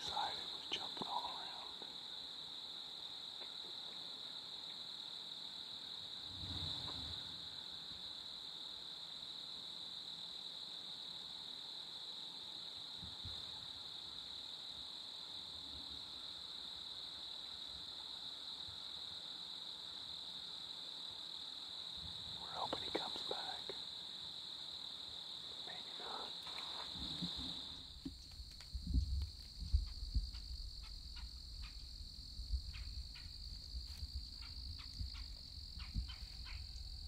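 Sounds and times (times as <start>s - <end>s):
cricket chorus: 0.0s - 37.0s.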